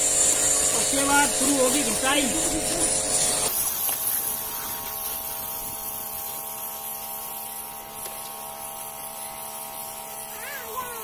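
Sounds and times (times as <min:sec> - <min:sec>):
pressure washer motor hum: 0:00.0 - 0:11.0
spray hissing: 0:00.0 - 0:11.0.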